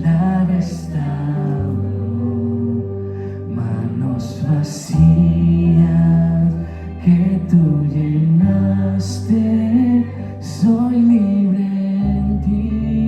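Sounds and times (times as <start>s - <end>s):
person singing: 0.0s - 13.0s
sustained bass notes: 0.0s - 13.0s.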